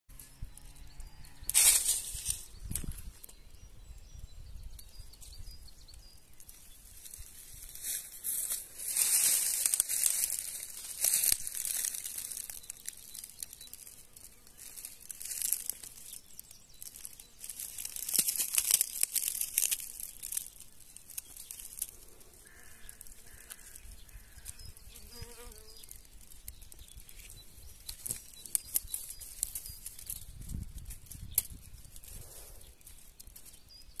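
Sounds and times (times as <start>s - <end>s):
dry leaves and twigs rustling: 0.1s - 3.5s, 4.1s - 34.0s.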